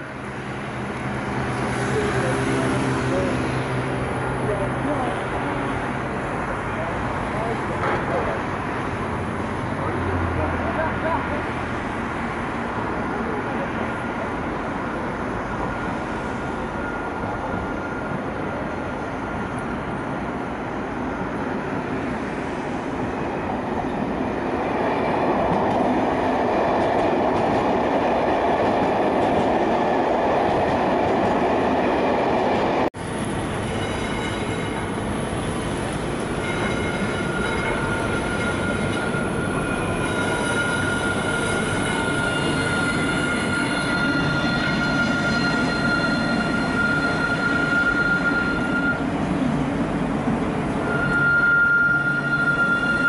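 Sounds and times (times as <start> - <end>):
tram high whine: 0.0 - 53.0
tram rolling on rails: 0.0 - 53.0.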